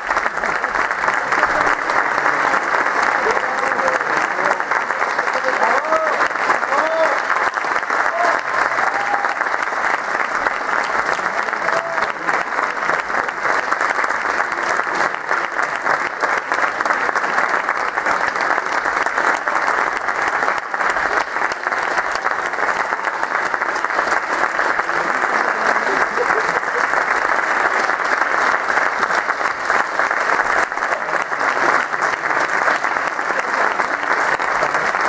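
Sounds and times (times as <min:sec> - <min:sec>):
audience applauding: 0:00.0 - 0:35.0.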